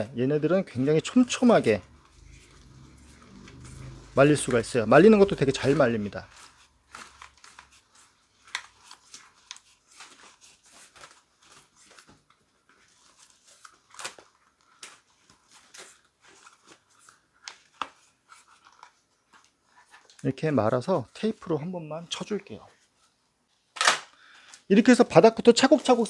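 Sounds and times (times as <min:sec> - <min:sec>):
rubber rubbing and rustling: 0:00.8 - 0:23.6.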